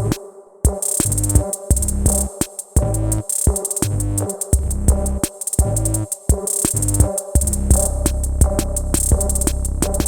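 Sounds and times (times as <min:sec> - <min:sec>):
electronic music with drum-machine beat: 0:00.0 - 0:10.0.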